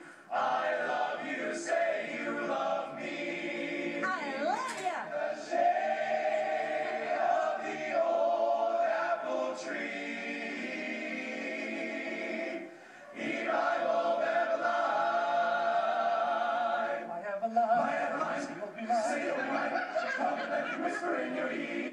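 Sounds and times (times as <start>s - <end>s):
male choir singing a cappella: 0.0s - 4.4s, 5.1s - 21.9s.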